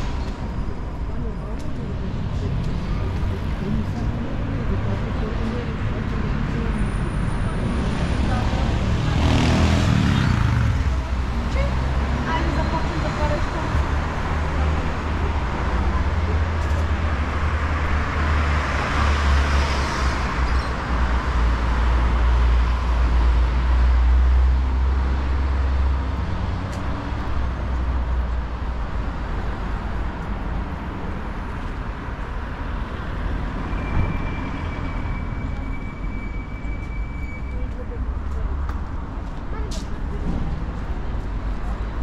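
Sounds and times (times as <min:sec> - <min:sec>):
cars passing: 0:00.0 - 0:42.0.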